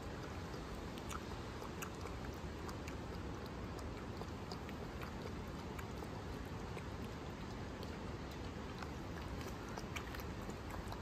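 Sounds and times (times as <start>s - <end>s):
low background hiss: 0.0s - 11.0s
puppy lapping water: 0.0s - 11.0s.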